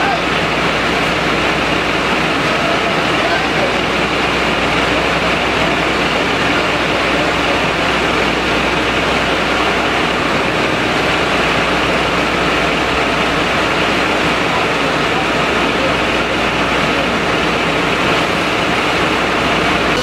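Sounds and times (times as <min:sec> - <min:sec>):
constant rushing noise: 0:00.0 - 0:20.0
fire engine motor running: 0:00.0 - 0:20.0.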